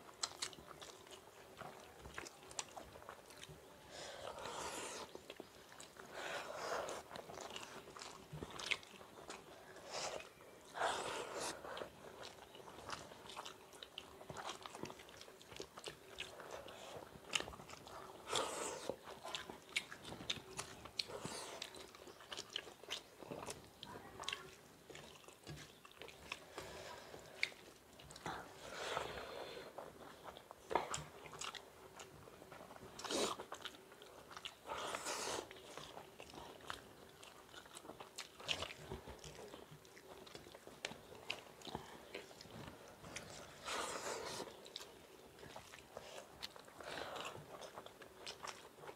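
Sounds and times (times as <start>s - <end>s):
people chewing and biting: 0.0s - 48.9s.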